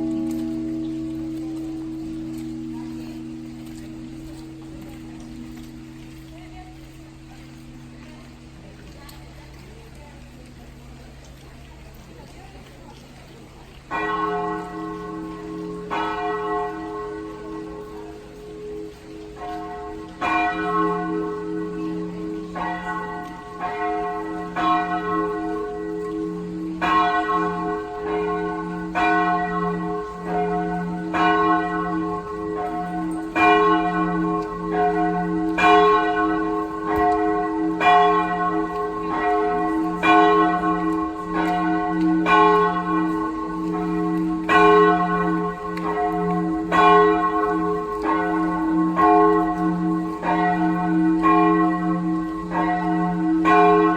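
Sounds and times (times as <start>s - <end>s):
church bells ringing: 0.0s - 12.4s, 13.3s - 53.9s.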